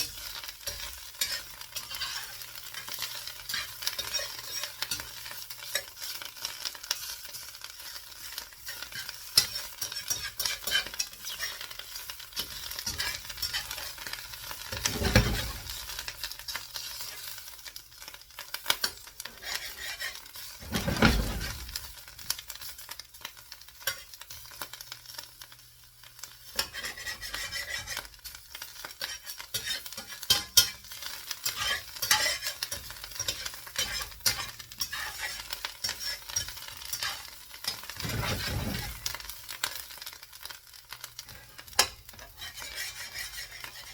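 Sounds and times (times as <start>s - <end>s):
omelette sizzling in a frying pan: 0.0s - 43.9s.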